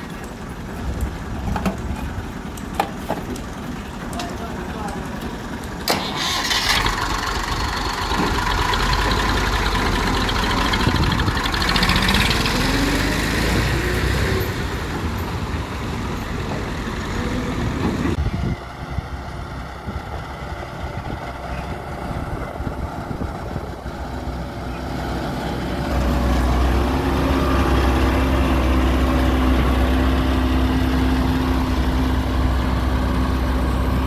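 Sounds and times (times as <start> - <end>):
tractor engine starting and revving: 0.0 - 34.0.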